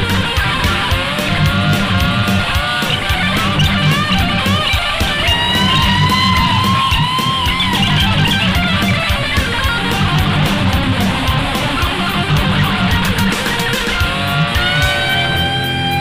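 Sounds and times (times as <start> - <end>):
bass and drums: 0.0 - 16.0
electric guitar solo: 0.0 - 16.0.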